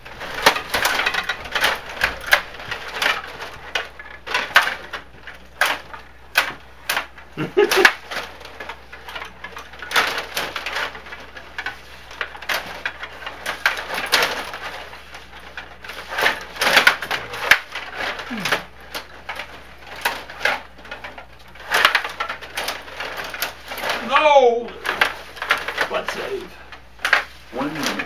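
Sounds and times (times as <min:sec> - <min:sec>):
table hockey rods clacking: 0:00.0 - 0:28.0.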